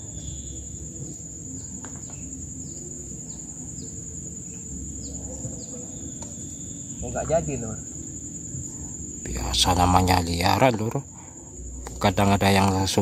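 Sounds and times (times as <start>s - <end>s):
crickets droning: 0.0s - 13.0s
low rumble: 0.0s - 13.0s.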